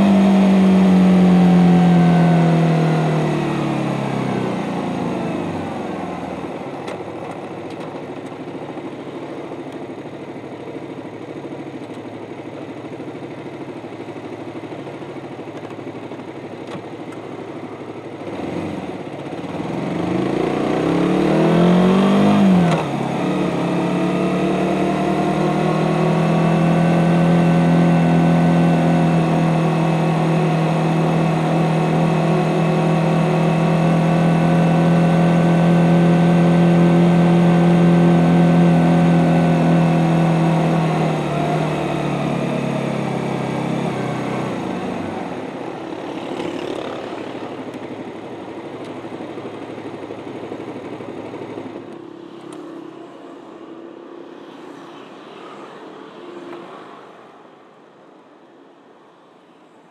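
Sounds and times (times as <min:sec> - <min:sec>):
motorcycle engine revving: 0:00.0 - 0:09.3, 0:12.8 - 0:52.0.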